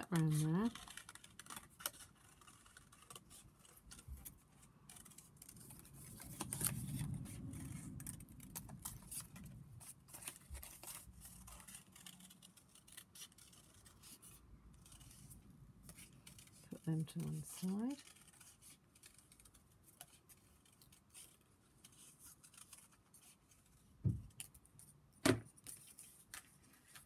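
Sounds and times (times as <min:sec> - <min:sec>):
card rustling: 0:00.0 - 0:27.0.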